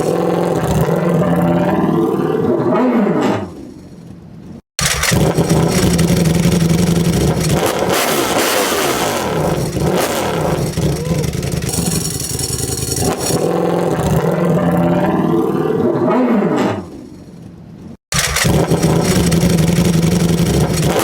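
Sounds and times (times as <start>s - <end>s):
motorcycle engine revving: 0.0s - 3.8s, 4.8s - 17.2s, 18.1s - 21.0s.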